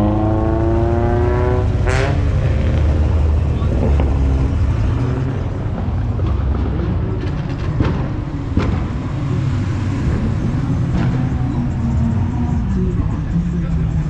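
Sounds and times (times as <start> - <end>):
traffic engines rumbling: 0.0 - 14.0.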